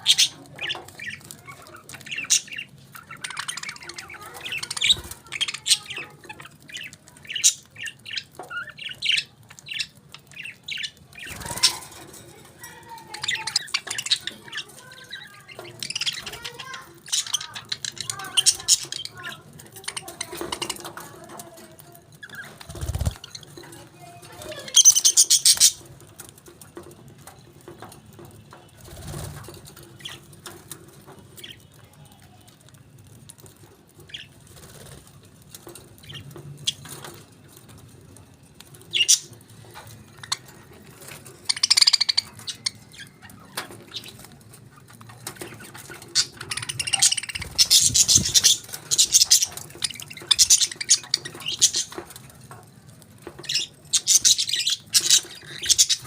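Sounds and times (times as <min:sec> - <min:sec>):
parakeets chirping and chattering: 0:00.0 - 0:56.0.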